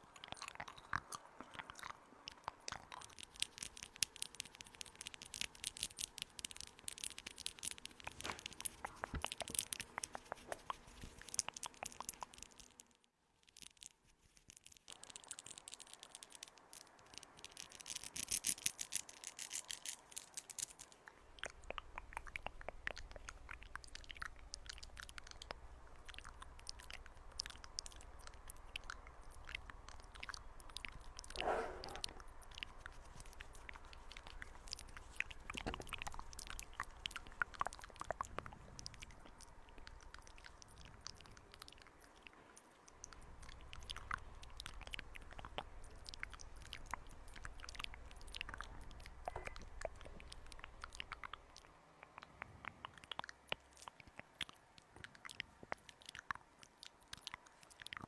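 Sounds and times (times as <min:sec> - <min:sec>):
crisp scratching and clicking: 0:00.0 - 0:58.0
faint low hum: 0:00.0 - 0:58.0.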